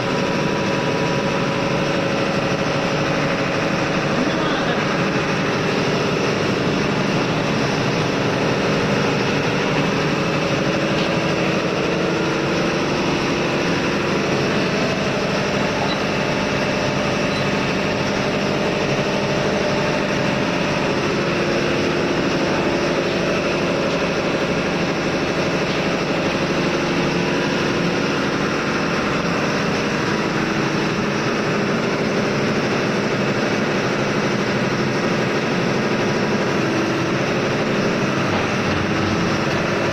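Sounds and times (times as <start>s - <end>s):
diesel machinery droning: 0.0s - 39.9s.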